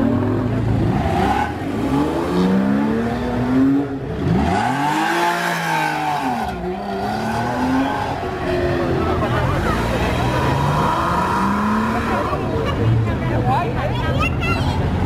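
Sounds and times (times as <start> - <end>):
car engine revving: 0.0 - 13.2.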